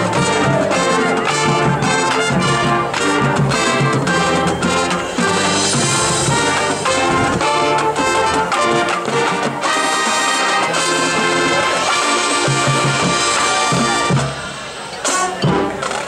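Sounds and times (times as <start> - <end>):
brass sustained chords: 0.0 - 15.8
marching band playing: 0.0 - 16.0.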